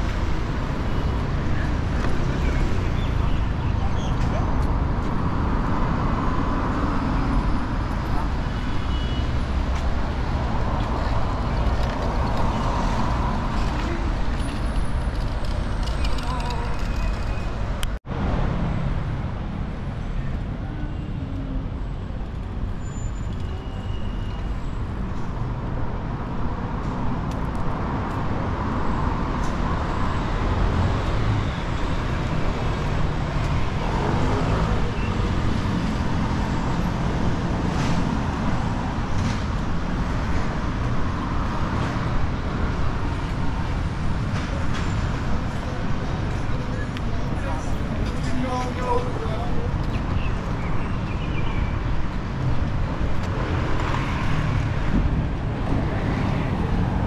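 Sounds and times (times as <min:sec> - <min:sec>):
rumble of passing cars and buses: 0:00.0 - 0:57.0.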